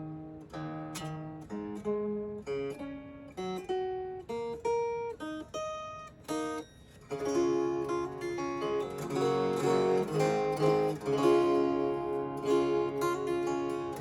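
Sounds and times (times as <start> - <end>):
guitar chord strummed: 0.0 - 14.0.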